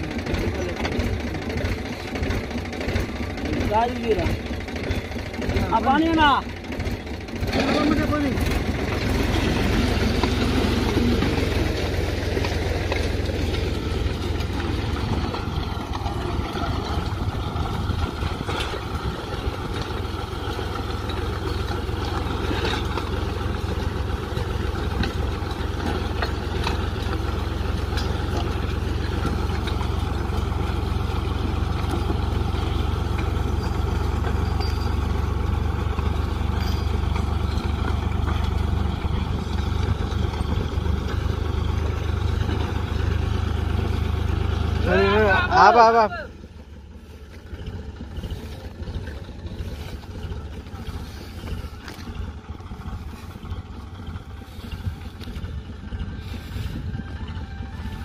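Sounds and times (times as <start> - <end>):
tractor engine humming: 0.0 - 58.0.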